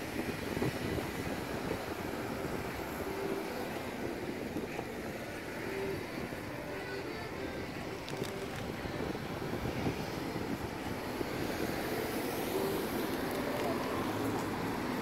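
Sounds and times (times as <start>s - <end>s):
bus engine running: 0.0s - 15.0s
street traffic noise: 0.0s - 15.0s.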